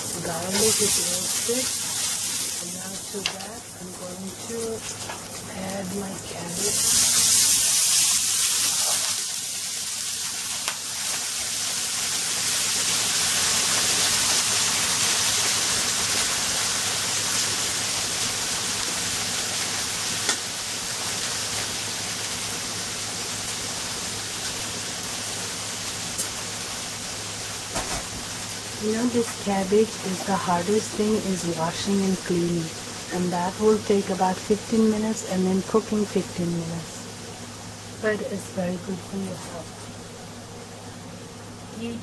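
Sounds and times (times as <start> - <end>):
cabbage sizzling in hot oil: 0.0 - 41.6.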